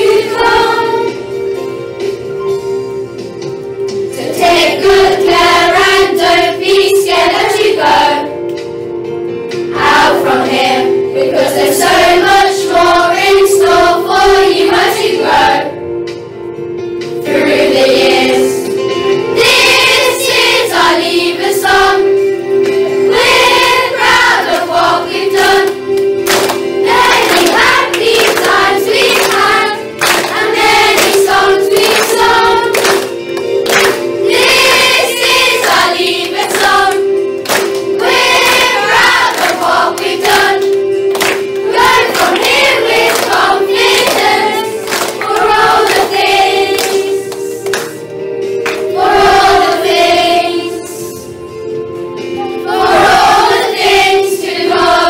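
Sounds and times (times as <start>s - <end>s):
children singing a worship song: 0.0s - 1.3s, 4.1s - 8.4s, 9.7s - 15.8s, 17.2s - 47.7s, 48.7s - 51.2s, 52.2s - 55.0s.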